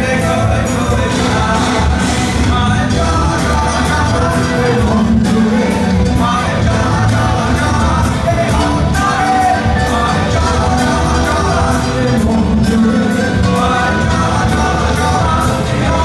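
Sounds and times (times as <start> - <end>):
person singing lead vocal: 0.0 - 16.0
rock band playing live: 0.0 - 16.0.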